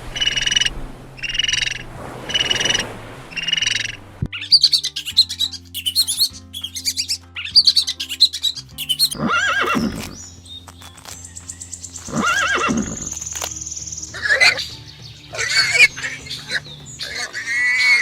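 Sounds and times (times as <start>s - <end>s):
loud wavering animal calls: 0.2s - 10.3s, 12.1s - 13.2s, 14.2s - 18.0s
background music: 3.4s - 18.0s
rapid bird chirping: 3.4s - 18.0s.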